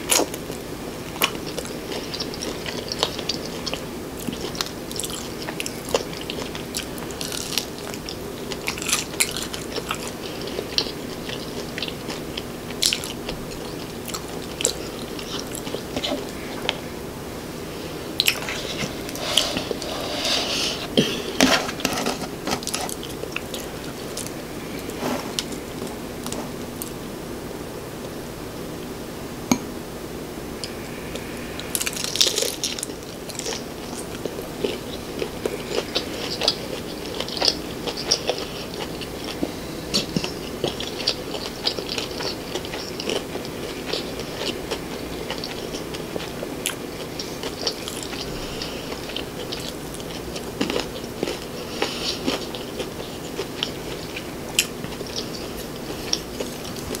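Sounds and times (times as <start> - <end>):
crunchy wet chewing: 0.0 - 16.9, 17.8 - 27.0, 30.6 - 57.0.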